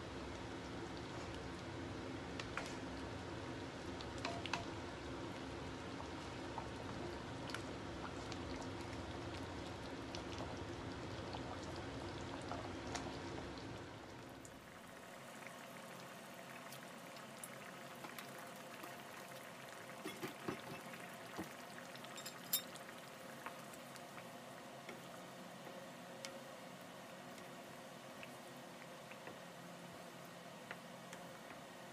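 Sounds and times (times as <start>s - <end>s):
sauce simmering and bubbling: 0.0s - 31.9s.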